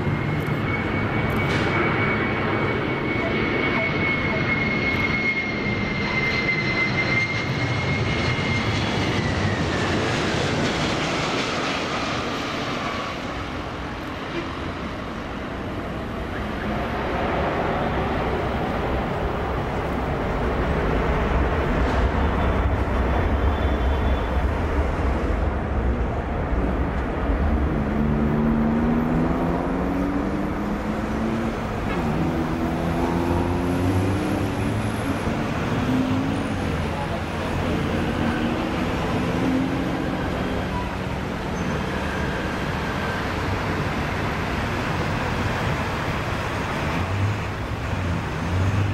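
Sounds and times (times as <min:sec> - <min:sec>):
jet engines passing: 0:00.0 - 0:48.9.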